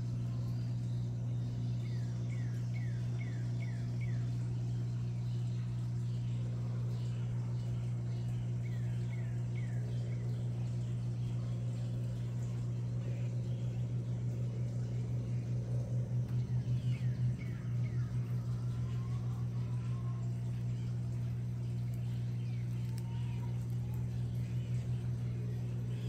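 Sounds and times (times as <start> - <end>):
steady low hum: 0.0 - 26.0
birds chirping: 0.1 - 26.0.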